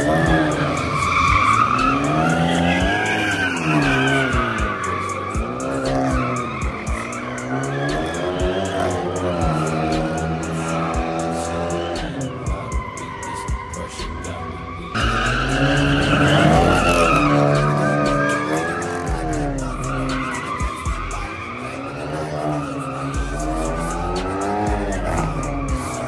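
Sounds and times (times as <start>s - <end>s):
car engine revving hard: 0.0s - 26.0s
tires squealing: 0.0s - 26.0s.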